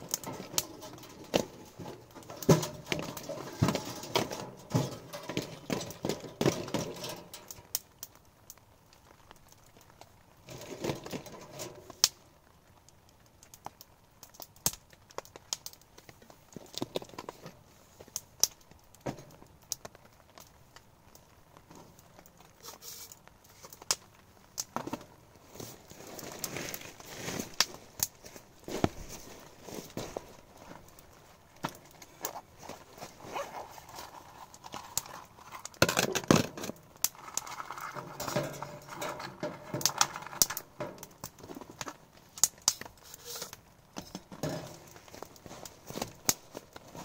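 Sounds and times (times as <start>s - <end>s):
rustling and handling noises: 0.0s - 8.0s, 9.0s - 12.6s, 15.8s - 47.0s.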